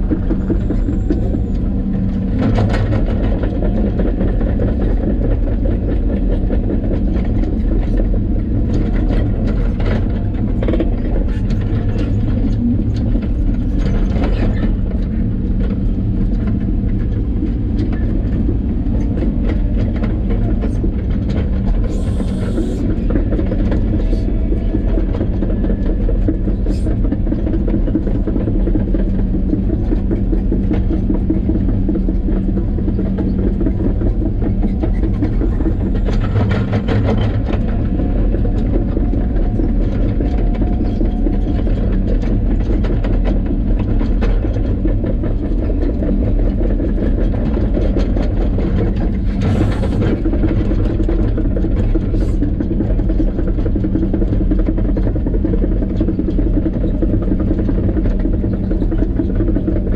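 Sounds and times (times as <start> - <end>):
fine continuous rattle: 0.0 - 59.9
vehicle engine rumbling: 0.0 - 59.9.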